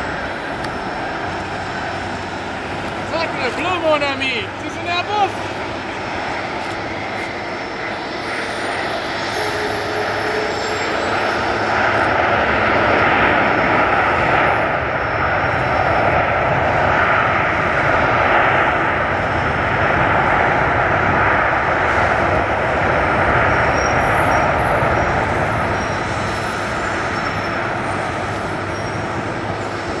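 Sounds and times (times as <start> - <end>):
jet engines in reverse thrust: 0.0 - 30.0.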